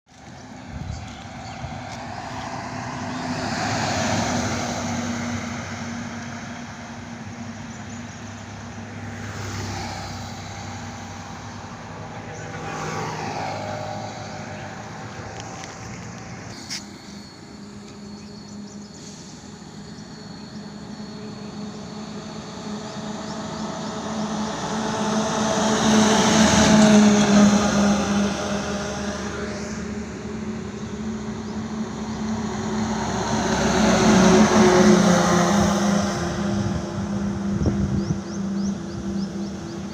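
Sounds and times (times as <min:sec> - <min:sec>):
engine drone: 0:00.1 - 0:39.9
vehicles passing: 0:00.1 - 0:39.9.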